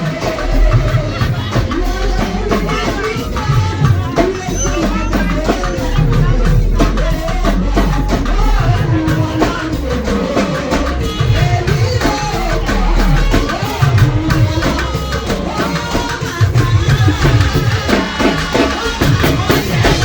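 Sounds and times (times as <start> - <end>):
driving drum beat: 0.0 - 20.0
voices singing: 0.0 - 20.0.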